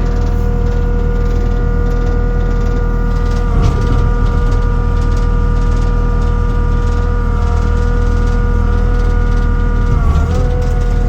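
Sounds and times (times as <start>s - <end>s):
diesel engine running under throttle: 0.0s - 11.0s.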